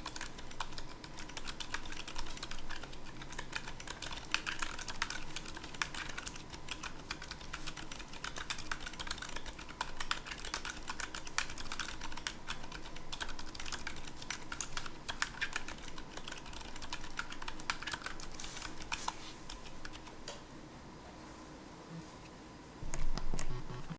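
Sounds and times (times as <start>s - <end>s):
fast typing on mechanical keyboard: 0.0s - 20.1s.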